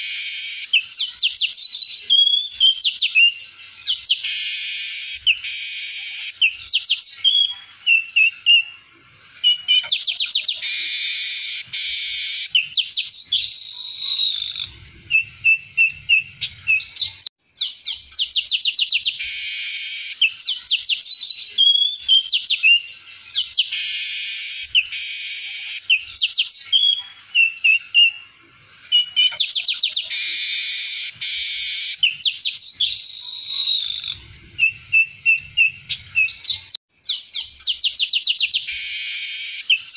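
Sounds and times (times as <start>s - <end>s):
weaver bird singing: 0.0s - 39.9s.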